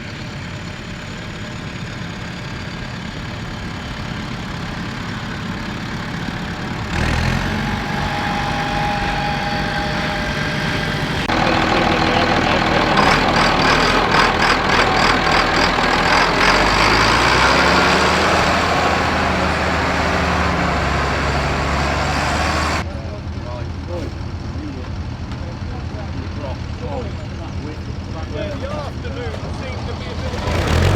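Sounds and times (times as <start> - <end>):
tractor diesel engines running: 0.0 - 30.9.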